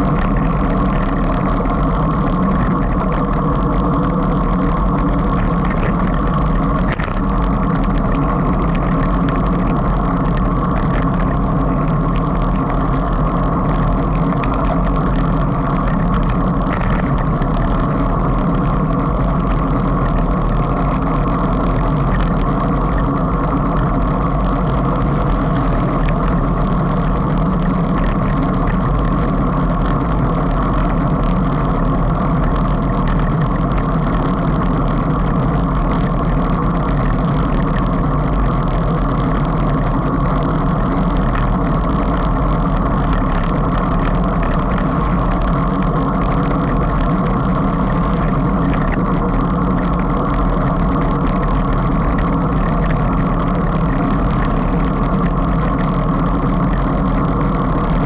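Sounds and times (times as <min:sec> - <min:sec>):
tyre and road noise: 0:00.0 - 0:58.0
wind on microphone: 0:00.0 - 0:58.0.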